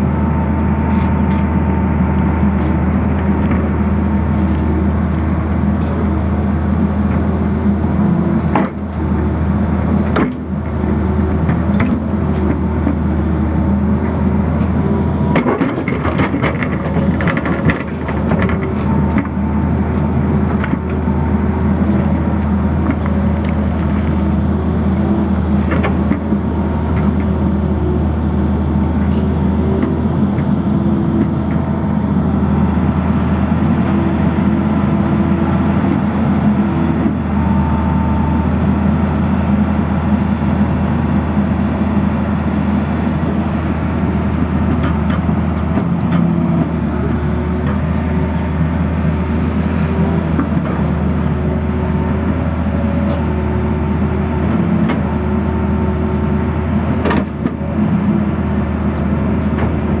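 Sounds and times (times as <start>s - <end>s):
excavator engine and hydraulics: 0.0s - 60.0s.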